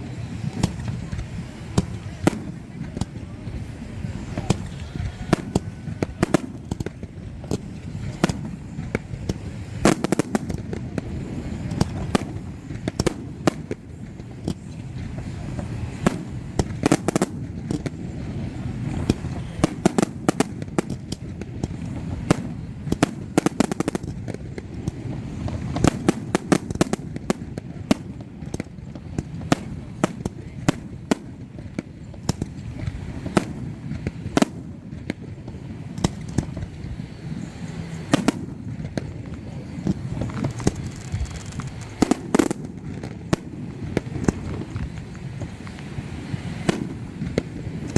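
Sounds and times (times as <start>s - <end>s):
continuous low rumble: 0.0s - 47.9s
fireworks bangs and crackles: 0.0s - 47.9s.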